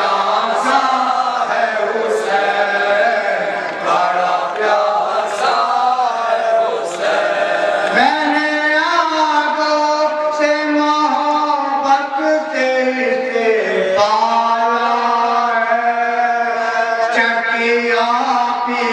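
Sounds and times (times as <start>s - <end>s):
men chanting a lament: 0.0s - 18.9s.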